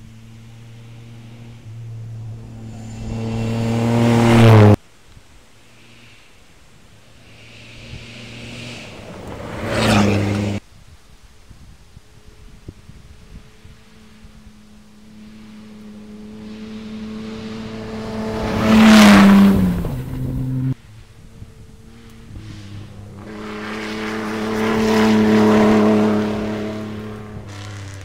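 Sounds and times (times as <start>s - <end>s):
rally car passing at speed: 0.0s - 4.8s, 6.9s - 10.6s, 13.2s - 28.0s.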